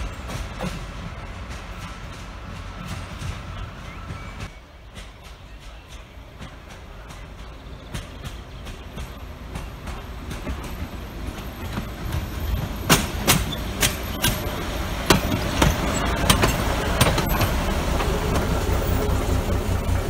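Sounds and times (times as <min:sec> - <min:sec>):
diesel locomotive engine rumble: 0:00.0 - 0:20.0
wheels clacking on track: 0:00.0 - 0:20.0.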